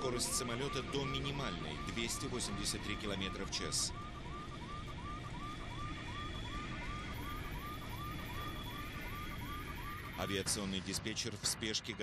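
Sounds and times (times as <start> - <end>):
electronic warning alarm chirps: 0.0 - 10.4
low rumble of aircraft: 0.0 - 12.0.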